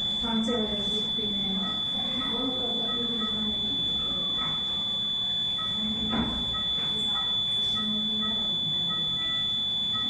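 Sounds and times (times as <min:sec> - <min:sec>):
short alarm beeps: 0:00.0 - 0:10.0.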